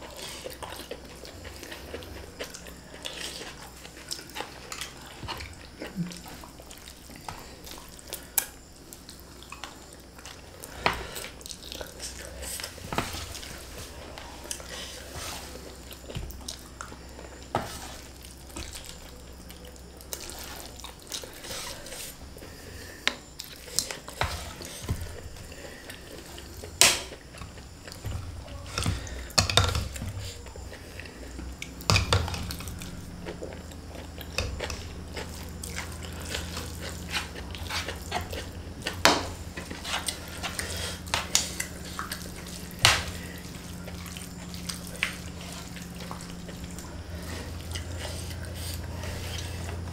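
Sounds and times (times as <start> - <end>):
wet chewing sounds: 0.0 - 49.9.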